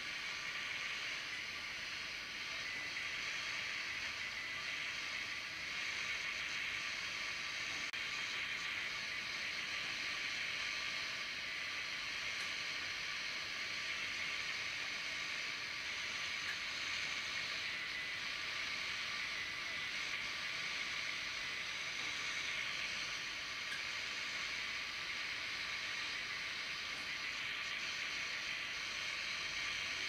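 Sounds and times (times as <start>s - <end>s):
shortwave radio static and hiss: 0.0s - 30.0s.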